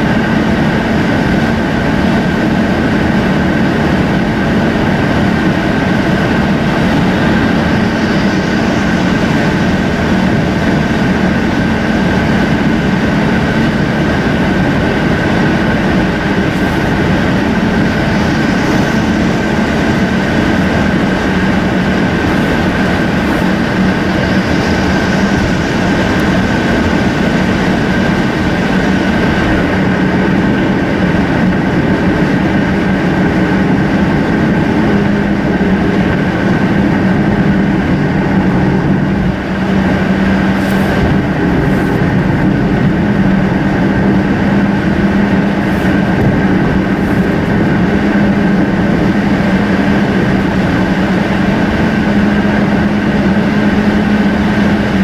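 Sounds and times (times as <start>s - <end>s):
road and tyre noise: 0.0s - 55.0s.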